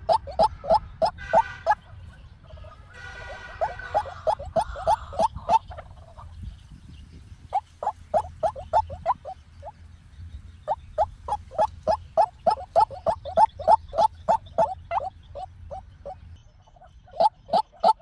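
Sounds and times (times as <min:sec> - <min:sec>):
waterhen calling hoarse notes: 0:00.0 - 0:01.9, 0:02.6 - 0:06.4, 0:07.4 - 0:09.7, 0:10.6 - 0:18.0.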